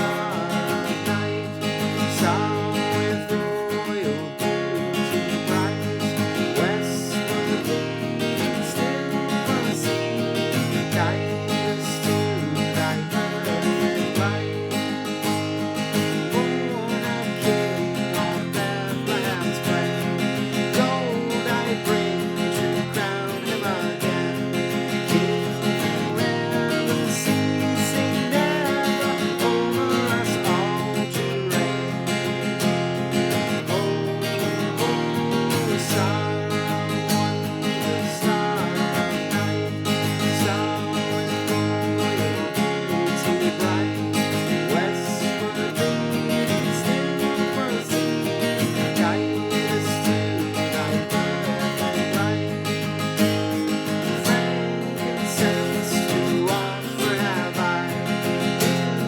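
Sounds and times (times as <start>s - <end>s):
acoustic guitar strummed and picked: 0.0s - 59.0s.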